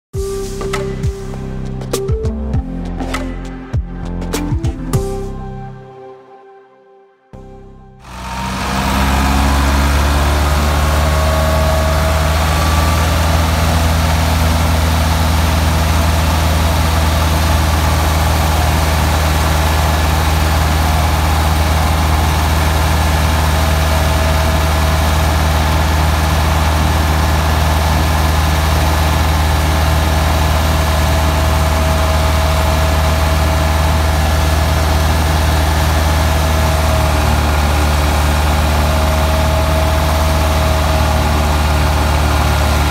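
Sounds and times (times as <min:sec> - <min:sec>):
thresher rushing noise: 0:08.0 - 0:42.9
tractor diesel engine running: 0:08.0 - 0:42.9.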